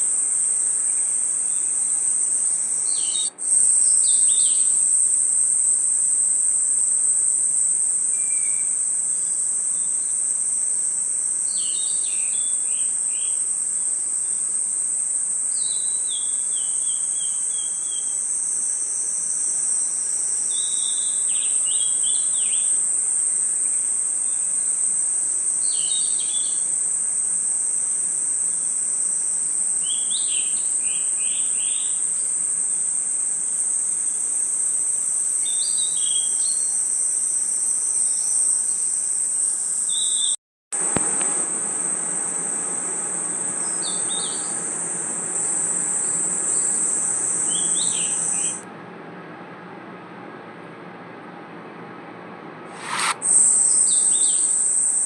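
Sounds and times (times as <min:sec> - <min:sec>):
cricket chirps: 0:00.0 - 0:48.6, 0:52.7 - 0:55.0
insects trilling: 0:00.0 - 0:48.6, 0:52.8 - 0:55.0.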